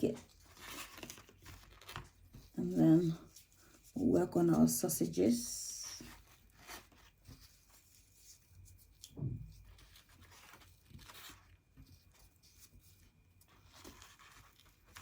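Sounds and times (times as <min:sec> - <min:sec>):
paper rustling: 0:00.0 - 0:04.0, 0:04.6 - 0:15.0.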